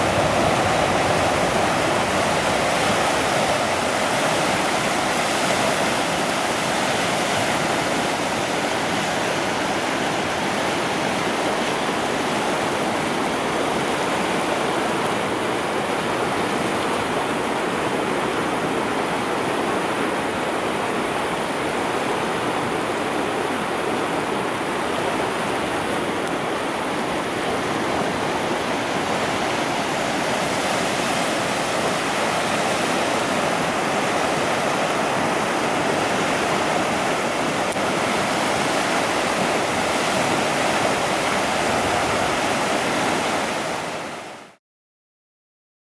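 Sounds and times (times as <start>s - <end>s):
river water rushing: 0.0s - 44.6s.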